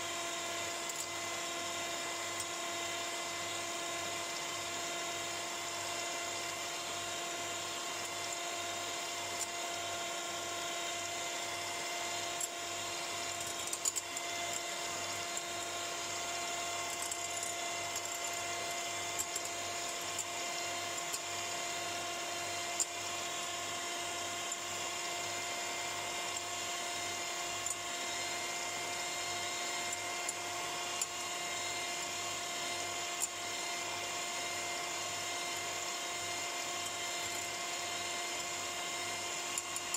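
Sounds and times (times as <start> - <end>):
electric hand mixer whining: 0.0 - 39.9.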